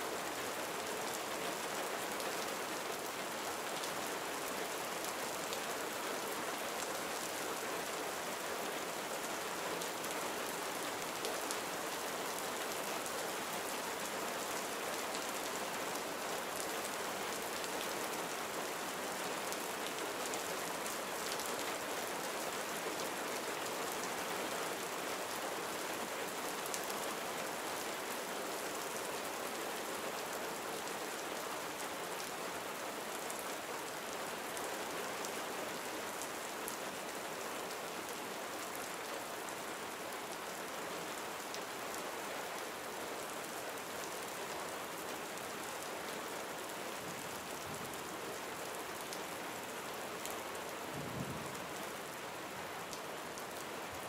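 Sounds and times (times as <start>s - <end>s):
gentle rain falling: 0.0s - 54.0s.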